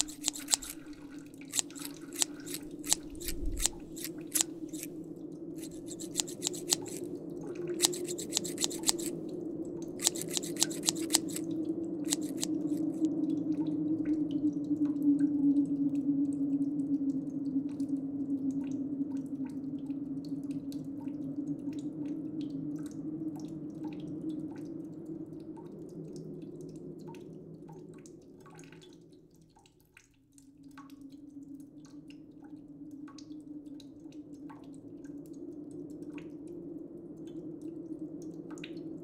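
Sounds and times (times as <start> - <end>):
water dripping: 0.0 - 39.0.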